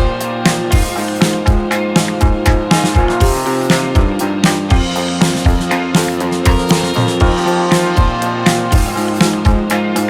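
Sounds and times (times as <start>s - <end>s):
loud recorded music: 0.0s - 10.0s
bass drum thumps: 1.5s - 9.7s.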